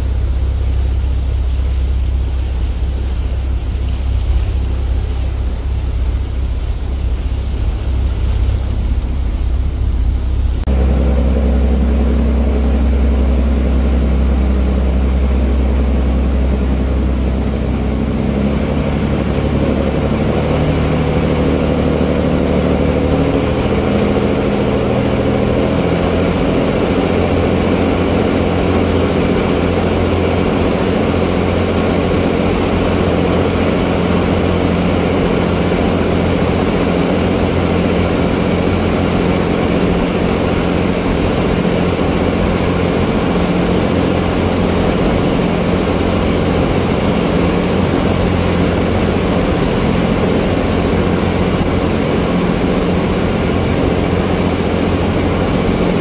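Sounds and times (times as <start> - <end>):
churning wake rushing: 0.0 - 56.0
ferry engine running: 0.0 - 56.0
wind on water: 0.0 - 56.0.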